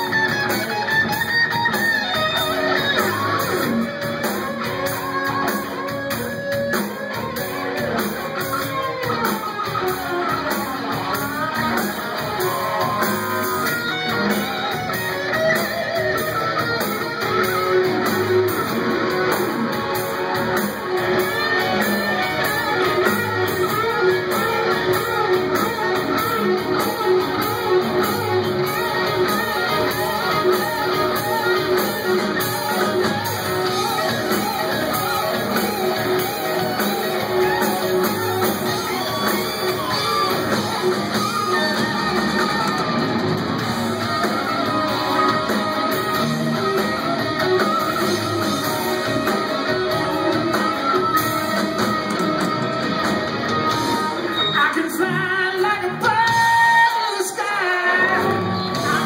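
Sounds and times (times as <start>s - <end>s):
drums and bass: 0.0s - 59.0s
electric guitar lead lines: 0.0s - 59.0s.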